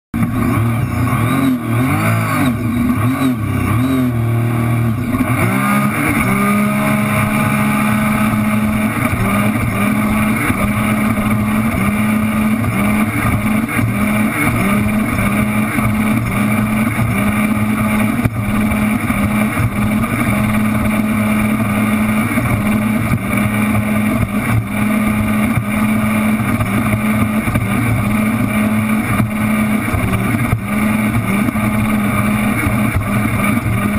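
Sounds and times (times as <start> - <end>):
wind: 0.1 - 33.9
watercraft engine running hard: 0.2 - 33.9.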